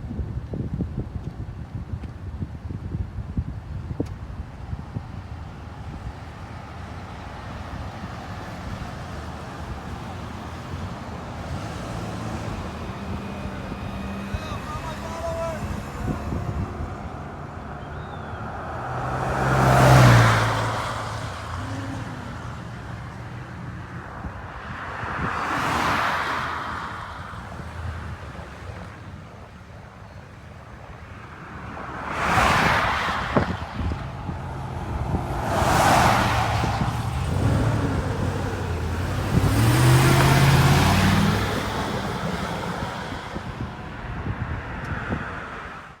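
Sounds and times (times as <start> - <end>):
cars passing by: 2.6 - 46.0.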